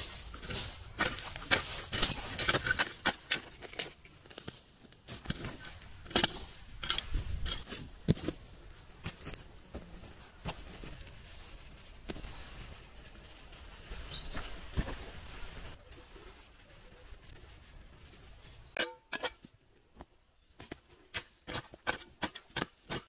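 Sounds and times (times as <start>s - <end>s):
twigs and leaves crackling: 0.0s - 23.0s.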